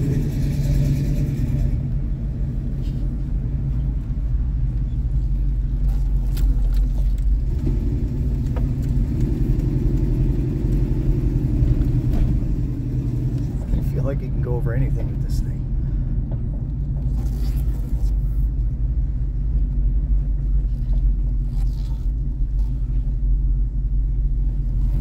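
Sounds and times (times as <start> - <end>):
low exhaust rumble: 0.0 - 25.0.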